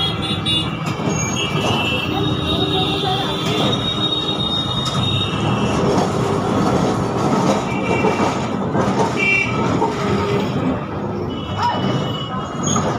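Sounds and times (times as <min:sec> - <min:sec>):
tram rumbling and rattling on rails: 0:00.0 - 0:12.9.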